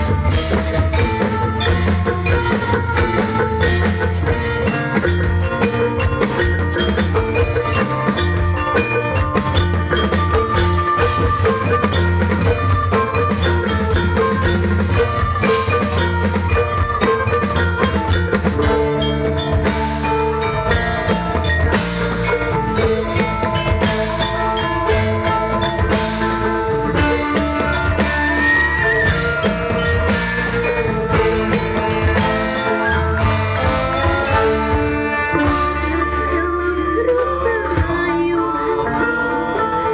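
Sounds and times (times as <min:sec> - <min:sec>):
tuned mallet percussion: 0:00.0 - 0:37.2
drums: 0:00.0 - 0:39.9.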